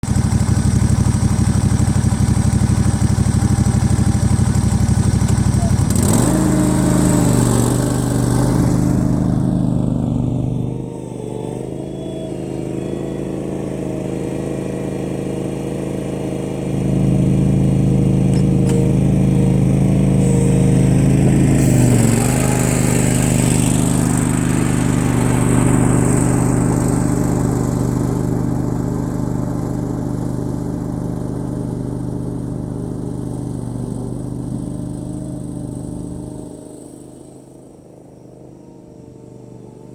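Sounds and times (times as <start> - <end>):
mower engine and reels droning: 0.0 - 39.9.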